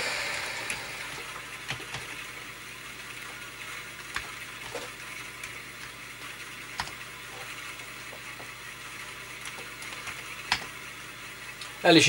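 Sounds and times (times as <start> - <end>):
floppy drive whirring: 0.0 - 12.0.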